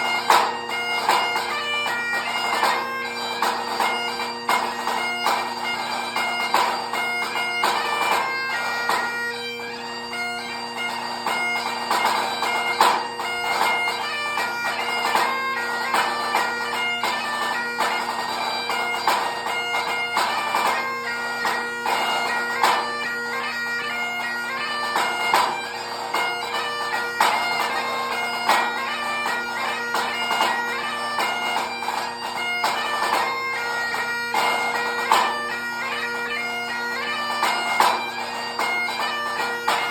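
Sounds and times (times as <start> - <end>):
bagpipe playing lively tune: 0.0 - 39.9.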